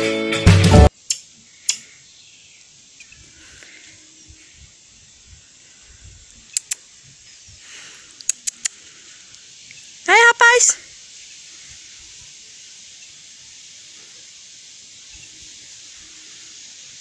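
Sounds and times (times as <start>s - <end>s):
faint outdoor ambience: 0.8s - 17.0s.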